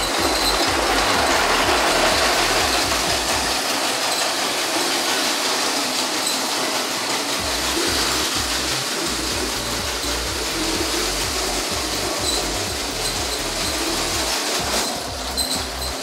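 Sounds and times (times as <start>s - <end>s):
toy train motor whirring: 0.0s - 16.0s
train wheels rattling on track: 0.0s - 16.0s.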